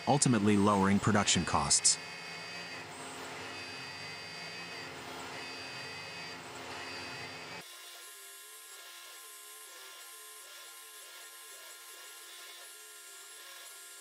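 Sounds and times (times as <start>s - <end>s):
milling machine cutting metal: 0.0s - 14.0s.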